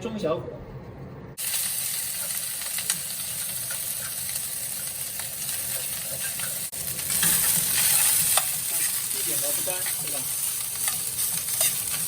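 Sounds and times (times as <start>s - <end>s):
rice sizzling in hot oil: 1.4s - 12.0s.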